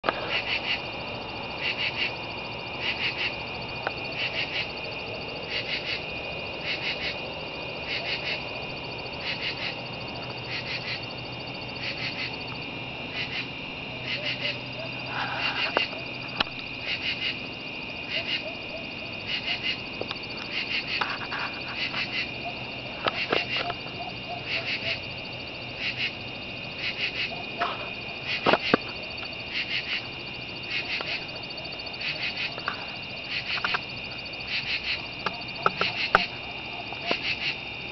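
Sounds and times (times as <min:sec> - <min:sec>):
frogs calling in short pulses: 0:06.6 - 0:37.6.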